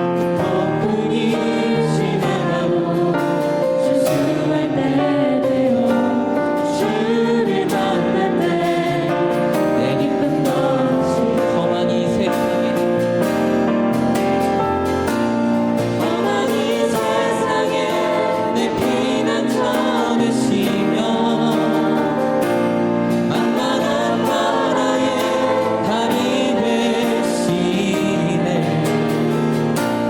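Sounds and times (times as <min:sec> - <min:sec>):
group singing a worship song: 0:00.0 - 0:30.0
instrumental accompaniment: 0:00.0 - 0:30.0.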